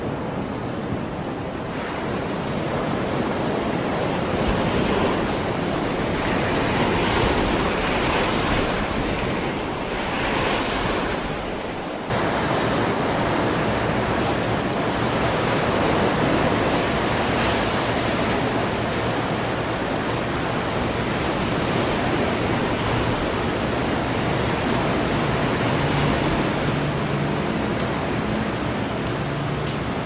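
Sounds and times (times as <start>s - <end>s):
street background noise: 4.4s - 30.0s.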